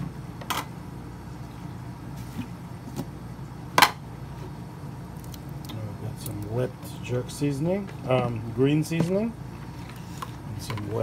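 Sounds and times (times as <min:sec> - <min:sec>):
kitchen background hum: 0:00.0 - 0:11.0.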